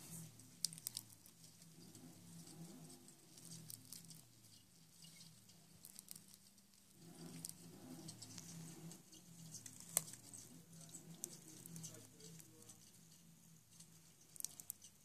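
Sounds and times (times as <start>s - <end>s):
low steady hum: 0.0s - 15.0s
small clicks and crackles: 0.0s - 15.0s.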